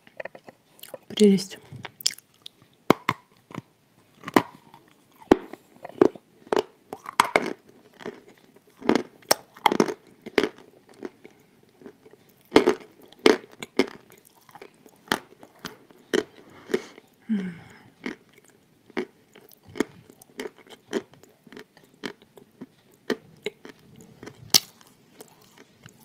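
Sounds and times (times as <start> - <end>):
grinding chews: 3.4 - 17.2, 18.0 - 26.0.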